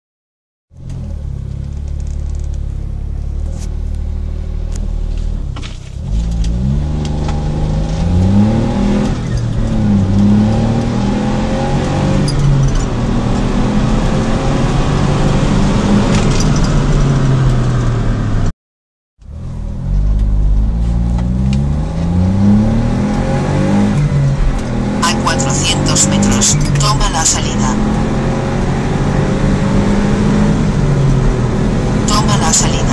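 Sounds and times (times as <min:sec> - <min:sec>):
car engine accelerating: 0:00.7 - 0:18.5, 0:19.2 - 0:32.9.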